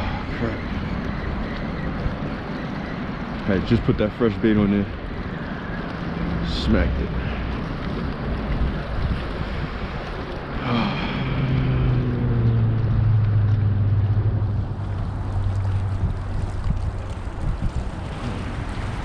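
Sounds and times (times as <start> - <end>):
low engine drone: 0.0 - 19.0
wind buffeting microphone: 0.0 - 19.0.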